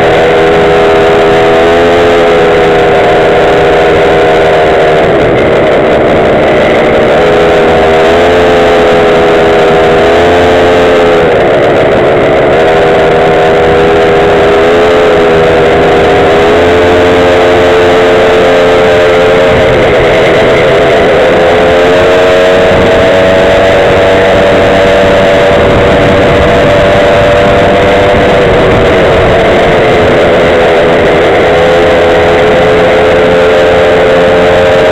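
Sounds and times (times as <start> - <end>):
small scooter engine revving: 0.0 - 34.9
steady rushing noise: 0.0 - 34.9.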